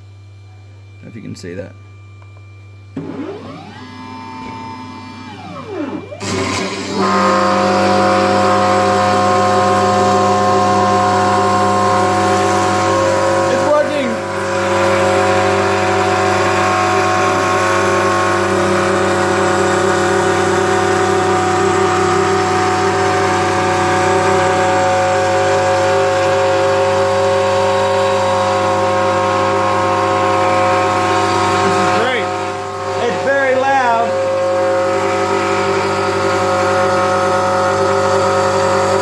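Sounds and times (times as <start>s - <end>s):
spindle motor whine: 0.0s - 39.0s.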